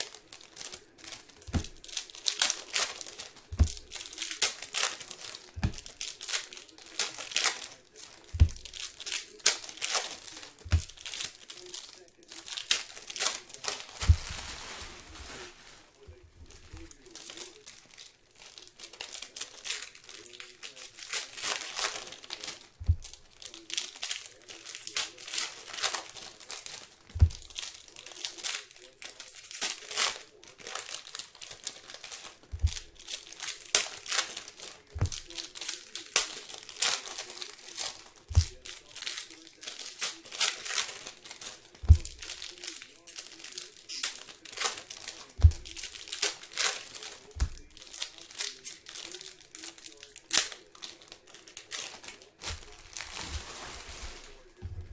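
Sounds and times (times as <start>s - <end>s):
card pack wrappers crinkling: 0.0s - 54.9s.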